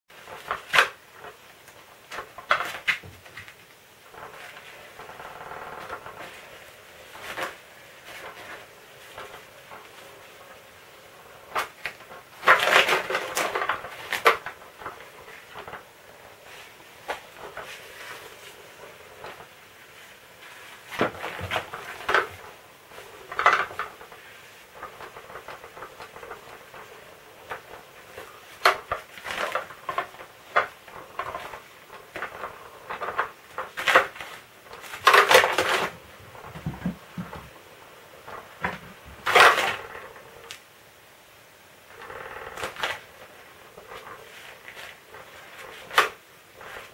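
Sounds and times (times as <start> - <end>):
cat toy rustling and clattering: 0.2 - 40.6, 41.9 - 46.9.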